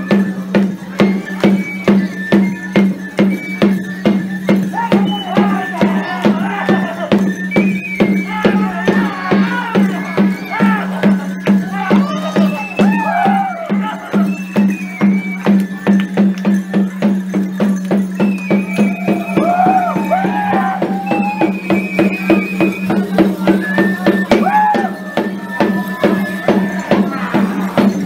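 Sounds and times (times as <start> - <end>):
sharp percussion strikes: 0.0 - 28.0.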